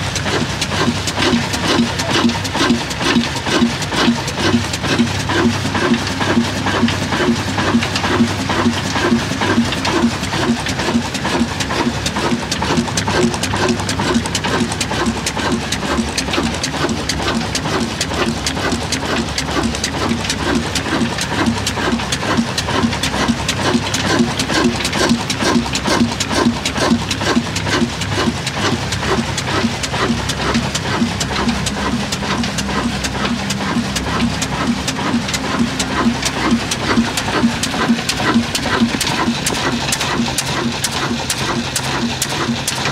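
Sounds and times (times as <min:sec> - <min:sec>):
stationary diesel engine running: 0:00.0 - 0:42.9.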